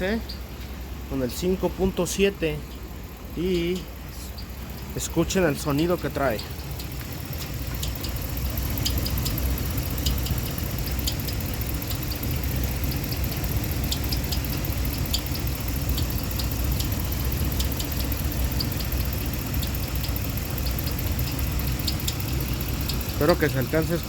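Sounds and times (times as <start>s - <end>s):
car engine idling: 0.0s - 24.0s
high-pitched engine chirps: 0.0s - 24.0s.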